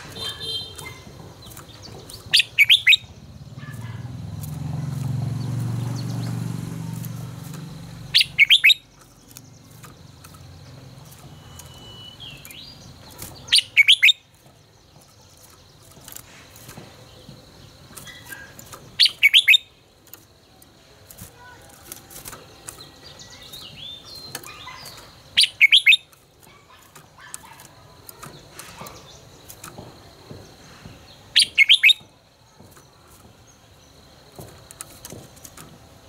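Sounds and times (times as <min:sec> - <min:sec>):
bird singing sharp phrases: 0:00.0 - 0:35.8.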